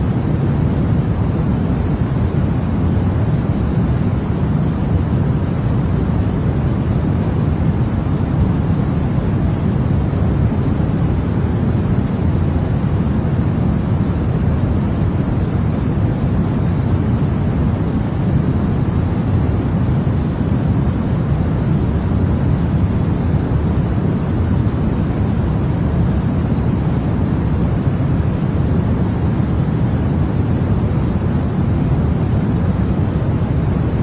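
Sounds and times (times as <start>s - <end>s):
white noise hiss: 0.0s - 34.0s.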